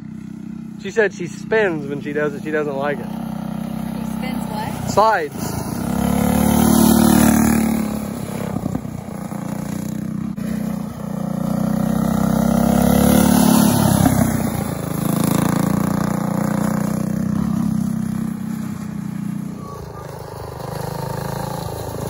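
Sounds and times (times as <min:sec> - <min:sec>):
kart engine passing by: 0:00.0 - 0:22.0.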